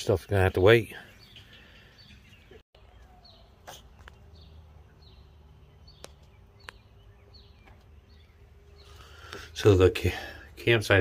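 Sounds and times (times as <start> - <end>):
bird chirping: 0.0 - 11.0
faint outdoor ambience: 0.0 - 11.0.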